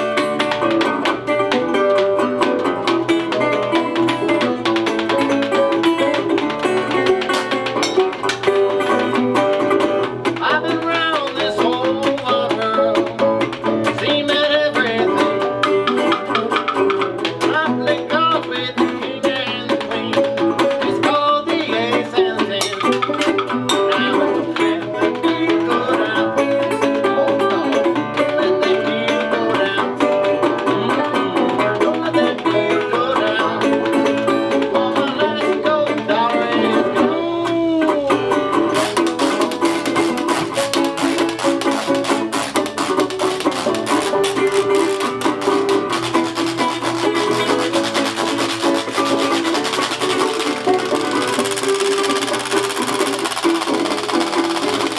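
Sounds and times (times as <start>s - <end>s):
banjo picking: 0.0s - 54.9s
guitar picking: 0.0s - 54.9s
washboard rhythm: 0.0s - 54.9s.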